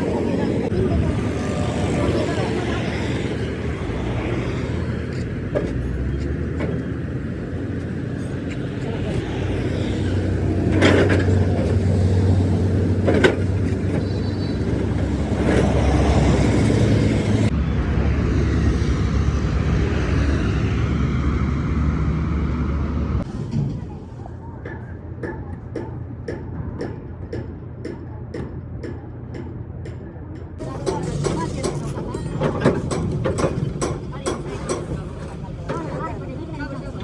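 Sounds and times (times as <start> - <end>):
road traffic engines: 0.0 - 37.0.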